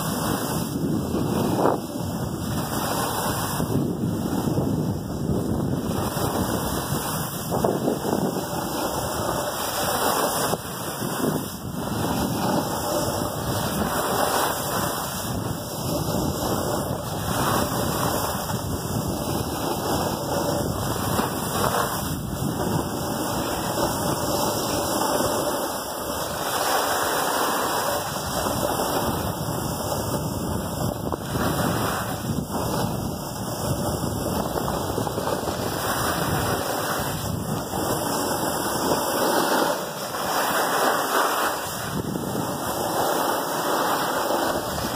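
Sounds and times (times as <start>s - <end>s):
skis sliding over packed snow: 0.0s - 44.9s
wind buffeting microphone: 0.0s - 44.9s.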